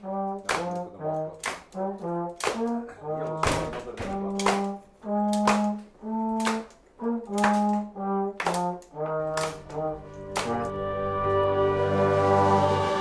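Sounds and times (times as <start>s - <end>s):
brass playing low held notes: 0.0s - 13.0s.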